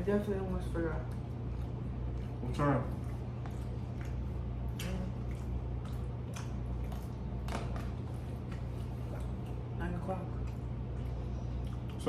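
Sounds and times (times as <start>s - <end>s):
steady low hum: 0.0s - 12.0s
wet chewing and mouth sounds: 0.0s - 12.0s.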